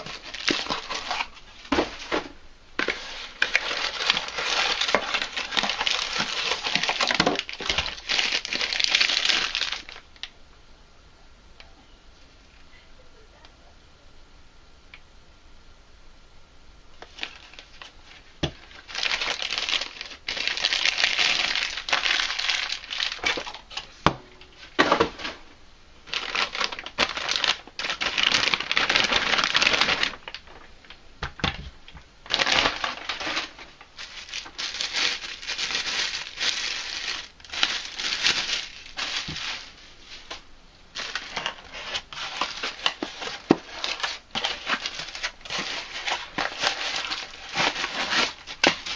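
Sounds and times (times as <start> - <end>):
plastic bag crinkling: 0.0 - 10.3, 17.0 - 48.9.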